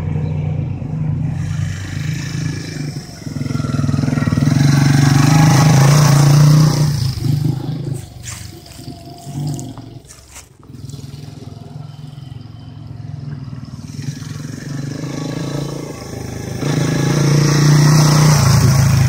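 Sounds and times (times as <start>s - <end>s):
dirt bike engine approaching: 0.0s - 19.0s.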